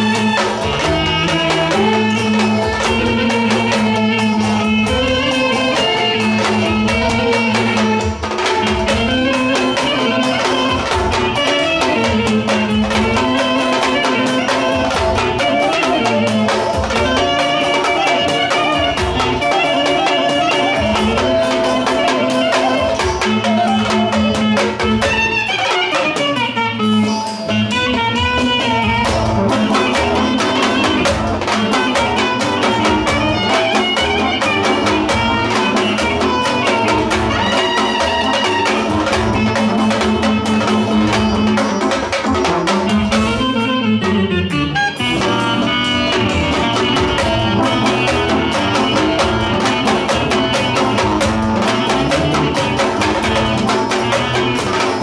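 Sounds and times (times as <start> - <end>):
clarinet melody: 0.0 - 55.0
drum beat: 0.0 - 55.0.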